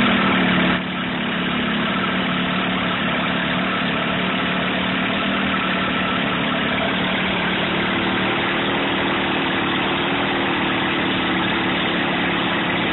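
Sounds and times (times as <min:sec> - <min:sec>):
outboard motor running: 0:00.0 - 0:12.9.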